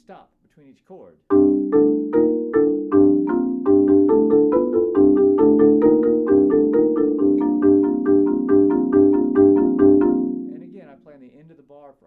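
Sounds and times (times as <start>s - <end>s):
marimba chords: 1.3s - 11.1s.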